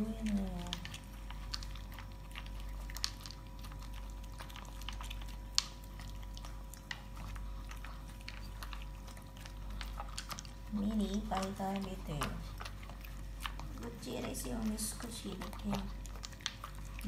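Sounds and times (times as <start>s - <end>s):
dog chewing wet food: 0.0s - 17.0s.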